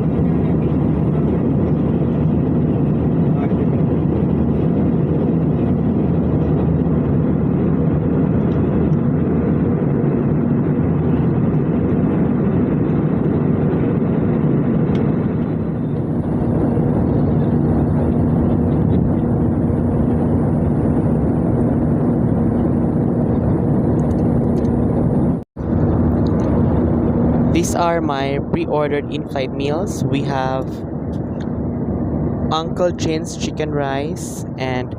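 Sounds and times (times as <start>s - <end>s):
airplane cabin engine and airflow noise: 0.0s - 34.9s
steady low hum: 0.0s - 34.9s.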